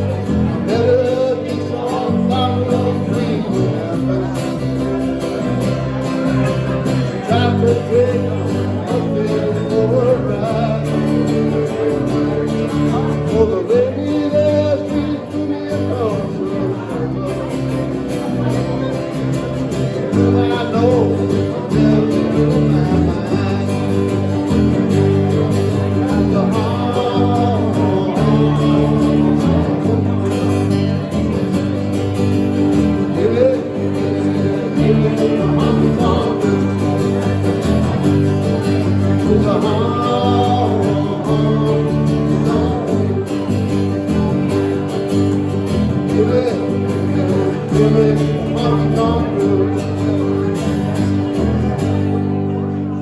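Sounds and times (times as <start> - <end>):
person singing: 0.0 - 5.2, 7.0 - 17.6, 19.9 - 31.1, 32.5 - 51.0
guitars strumming: 0.0 - 53.0.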